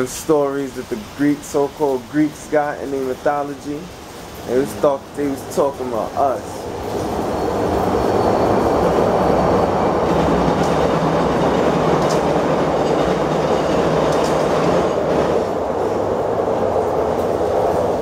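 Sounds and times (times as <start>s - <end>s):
passenger train passing: 0.0s - 18.0s.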